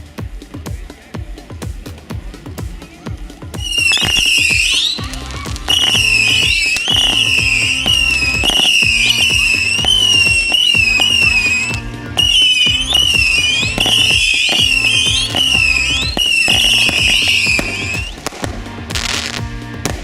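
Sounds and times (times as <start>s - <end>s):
electronic dance music: 0.0s - 20.0s.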